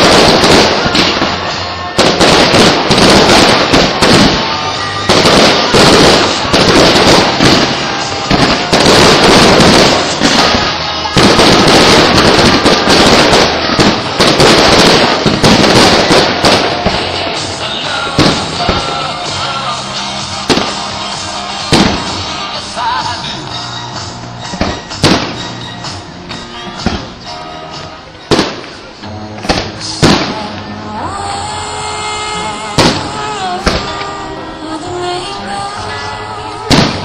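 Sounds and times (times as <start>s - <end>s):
fireworks bangs and crackles: 0.0s - 30.9s, 32.6s - 34.8s, 35.9s - 37.0s.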